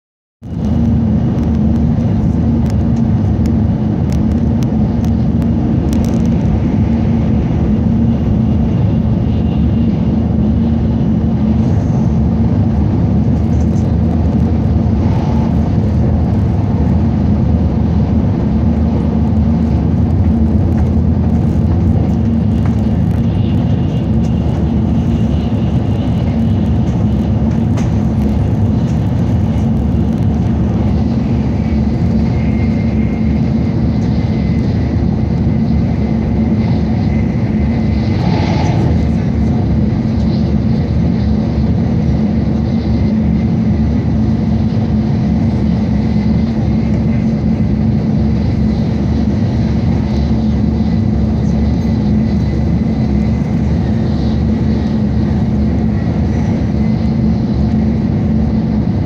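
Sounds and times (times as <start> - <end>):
train rumble inside cabin: 0.4 - 59.0.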